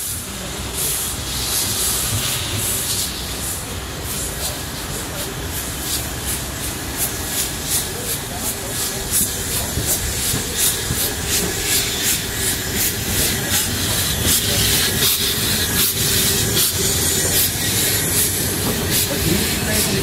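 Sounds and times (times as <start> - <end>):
hiss of escaping steam: 0.0 - 20.0
steam locomotive exhaust chuffs: 0.0 - 20.0.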